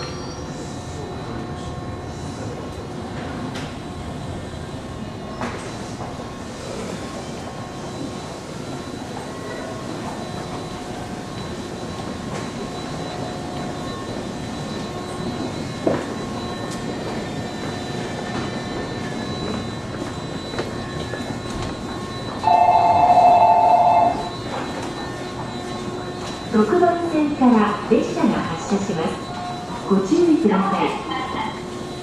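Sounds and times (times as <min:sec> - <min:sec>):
train equipment humming: 0:00.0 - 0:32.0.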